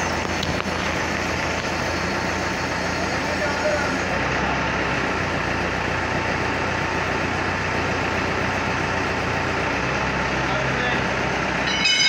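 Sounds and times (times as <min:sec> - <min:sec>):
crane engine humming steadily: 0:00.0 - 0:12.0.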